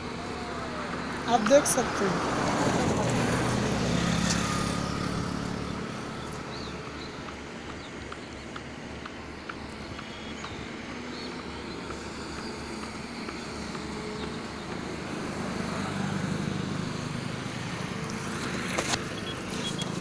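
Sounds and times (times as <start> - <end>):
vehicle engine passing: 0.0 - 9.6, 10.4 - 20.0
steady traffic hum: 0.0 - 20.0.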